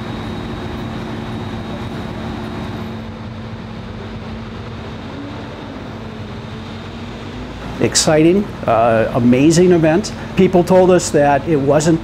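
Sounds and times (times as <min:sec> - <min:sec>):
heavy diesel engine running: 0:00.0 - 0:12.0
low hum: 0:00.0 - 0:12.0.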